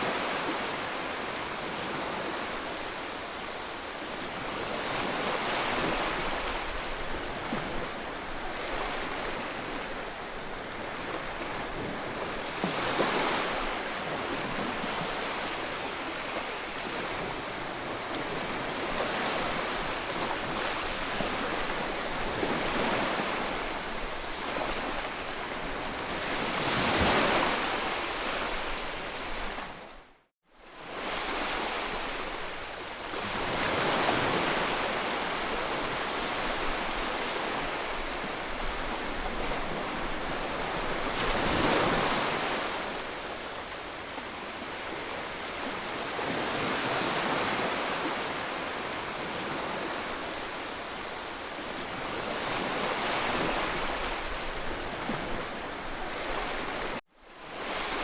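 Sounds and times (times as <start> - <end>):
waves breaking and washing in: 0.0 - 58.0.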